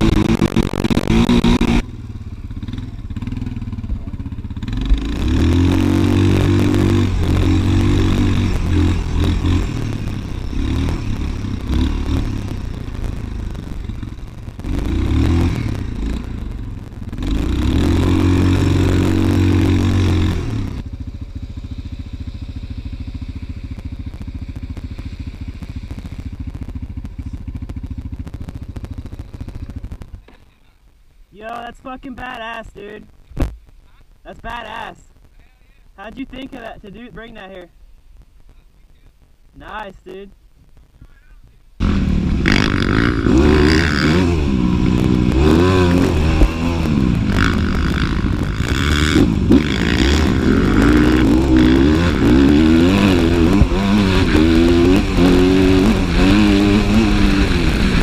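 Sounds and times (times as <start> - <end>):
dirt bike engine revving: 0.0 - 30.4, 41.8 - 58.0.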